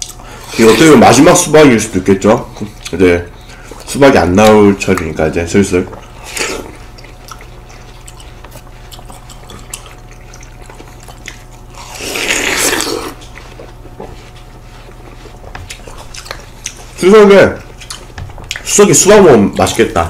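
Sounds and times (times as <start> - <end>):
watermelon chewing crunch: 0.0 - 20.0.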